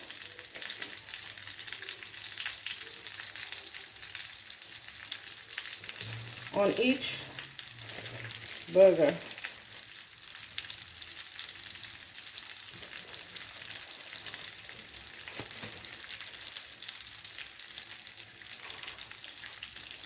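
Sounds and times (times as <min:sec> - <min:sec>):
patties sizzling in oil: 0:00.0 - 0:20.0.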